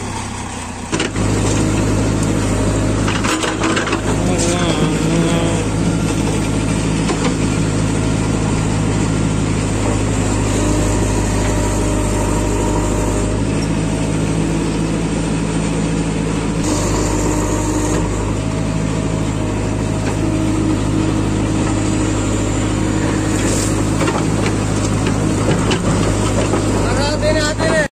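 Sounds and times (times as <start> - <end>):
diesel engine running under load: 0.0 - 27.9.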